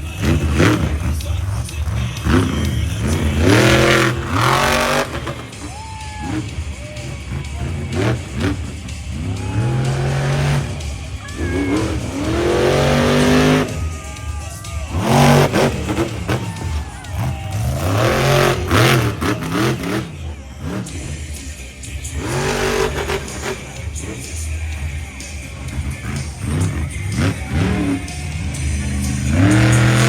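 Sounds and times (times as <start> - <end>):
background music: 0.0 - 30.0
truck engine revving hard: 0.0 - 30.0.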